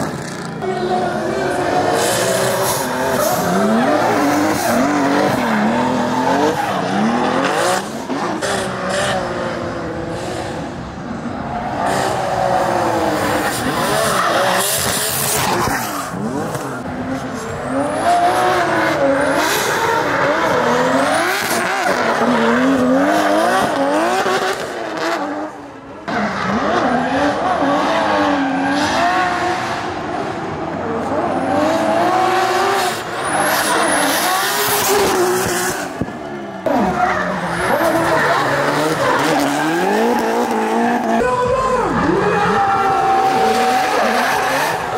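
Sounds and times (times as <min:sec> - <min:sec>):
car engines revving hard: 0:00.0 - 0:44.9.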